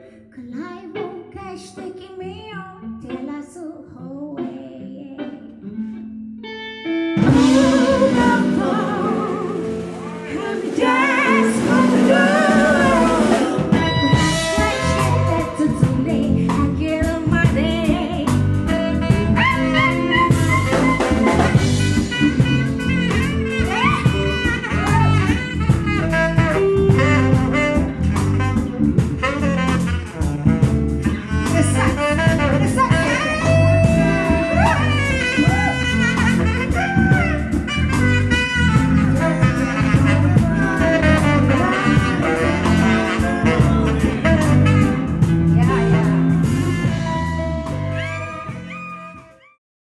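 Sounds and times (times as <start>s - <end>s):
person singing: 0.0s - 6.0s, 7.2s - 28.6s, 29.2s - 37.7s, 38.3s - 49.4s
jazz or blues music: 4.0s - 49.6s
horns playing: 7.2s - 48.7s.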